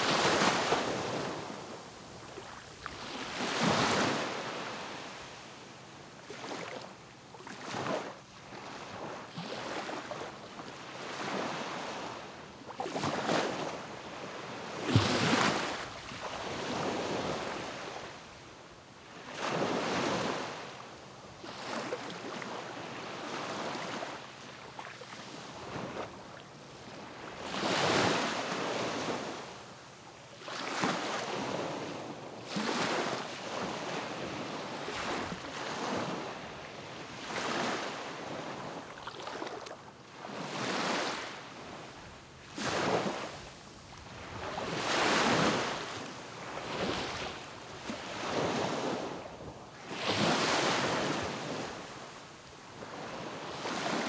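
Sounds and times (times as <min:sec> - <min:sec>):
sea waves breaking on beach: 0:00.0 - 0:05.6, 0:06.2 - 0:18.3, 0:21.4 - 0:29.6, 0:30.4 - 0:54.0.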